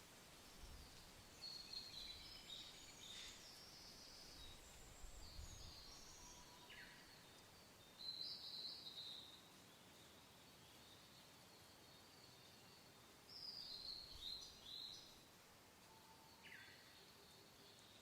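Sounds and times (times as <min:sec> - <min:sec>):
soft low wind: 0:00.0 - 0:18.0.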